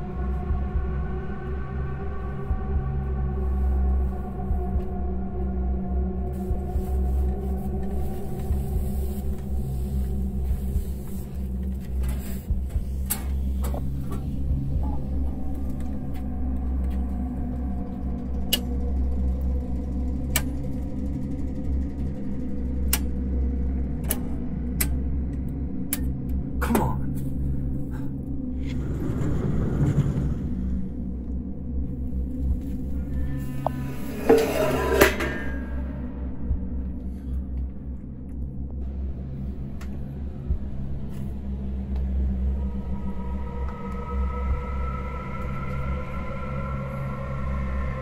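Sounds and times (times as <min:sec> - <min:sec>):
low rumbling horror drone: 0:00.0 - 0:48.0.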